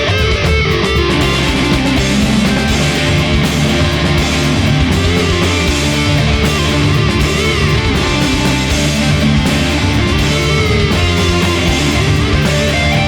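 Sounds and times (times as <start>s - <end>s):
heavy metal band playing: 0.0s - 13.0s.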